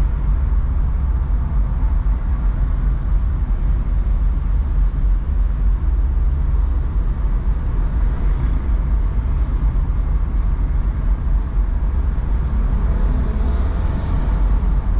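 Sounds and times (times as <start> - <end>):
car engine: 0.0 - 14.9
surrounding traffic: 0.0 - 14.9
tyre noise on road: 0.0 - 14.9.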